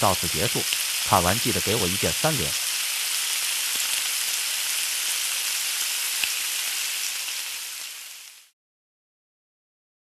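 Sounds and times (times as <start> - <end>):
food sizzling in hot oil: 0.0 - 8.6.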